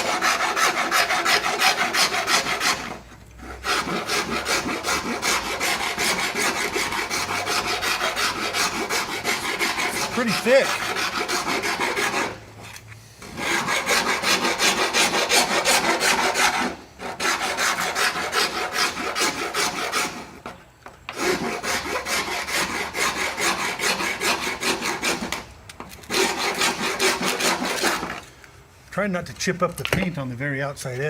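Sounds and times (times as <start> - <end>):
hand file rasping on fiberglass: 0.0 - 28.2.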